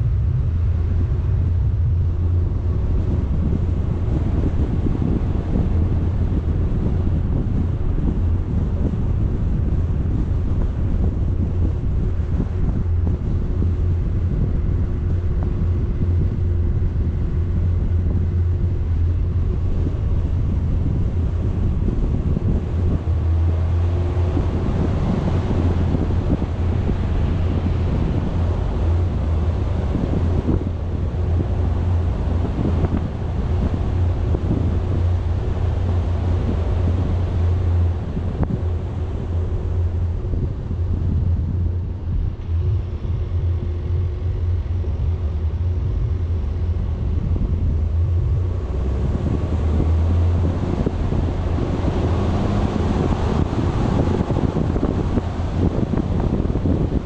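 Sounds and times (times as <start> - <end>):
vehicle engine and road drone: 0.0 - 57.0
wind buffeting microphone: 0.0 - 57.0.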